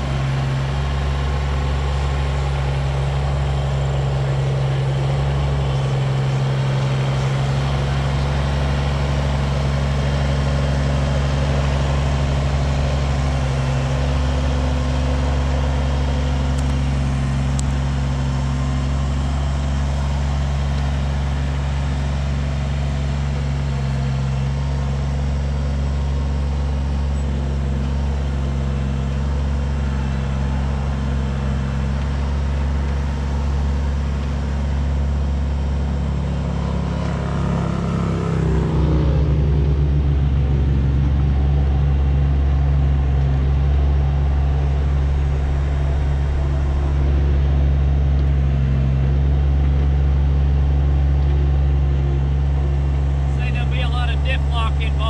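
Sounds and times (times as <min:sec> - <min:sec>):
tractor diesel engine humming: 0:00.0 - 0:55.0.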